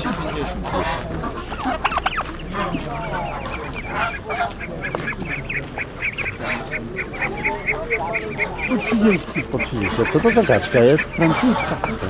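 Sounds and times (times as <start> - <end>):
ducks and geese calling: 0.0 - 12.0.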